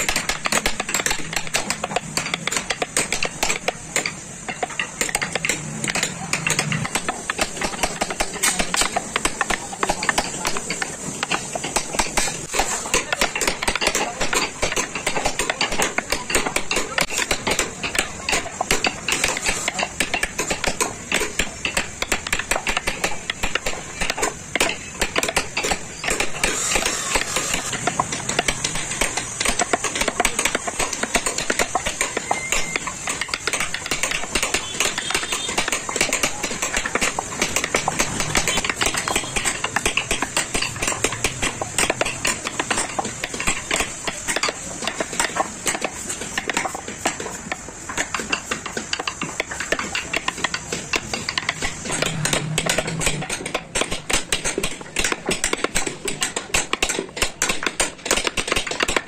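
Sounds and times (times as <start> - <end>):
mallet tapping chisel into wood: 0.0 - 59.0.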